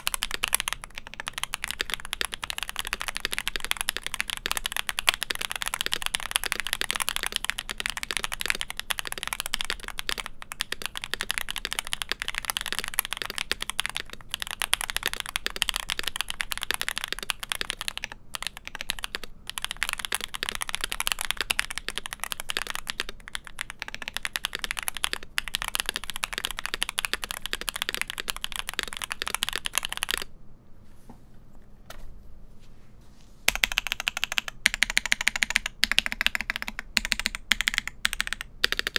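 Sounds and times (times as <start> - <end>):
mechanical keyboard typing: 0.0 - 30.3, 33.5 - 38.9.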